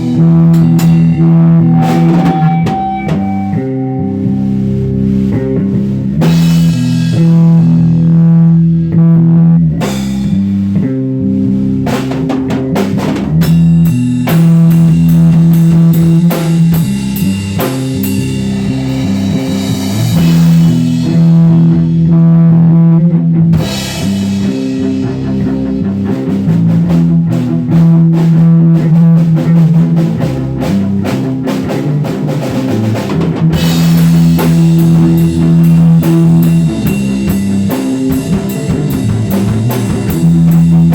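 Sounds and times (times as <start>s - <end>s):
drum kit with cymbals: 0.0s - 40.9s
loud low guitar riff: 0.0s - 40.9s.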